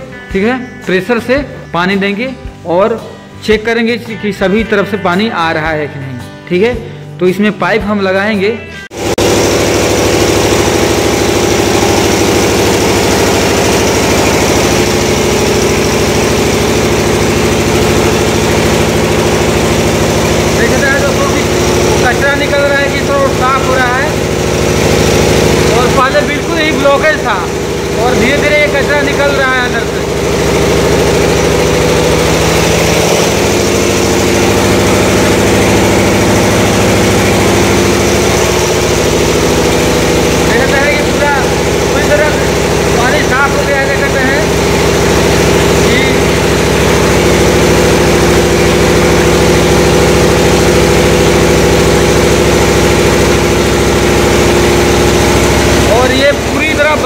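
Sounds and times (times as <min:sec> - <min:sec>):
refrigeration compressors running: 0:00.0 - 0:57.0.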